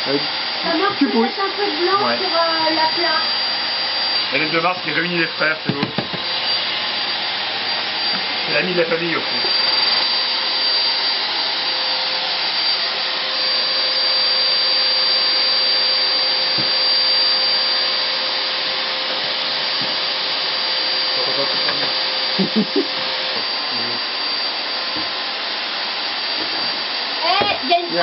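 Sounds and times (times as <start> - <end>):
electric blower motor whining: 0.0 - 28.0.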